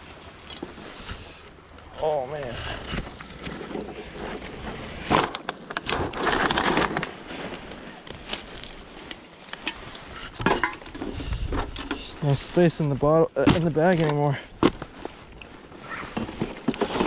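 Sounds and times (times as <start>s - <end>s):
dry brush and grass crunching: 0.0s - 17.0s.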